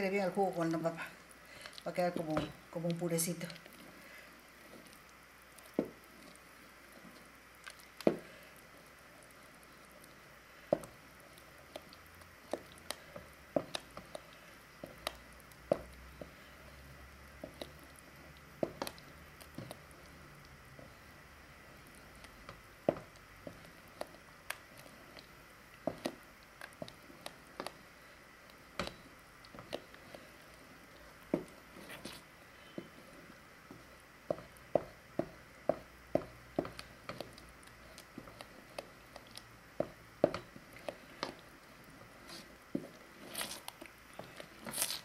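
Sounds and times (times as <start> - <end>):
wet squelching stirring: 0.0 - 45.0.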